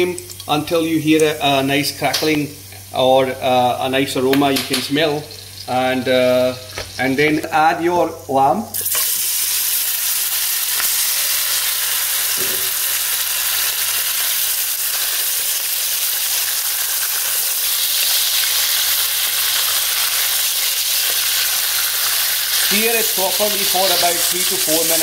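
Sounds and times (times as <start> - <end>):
meat sizzling in frying pan: 0.0 - 25.0.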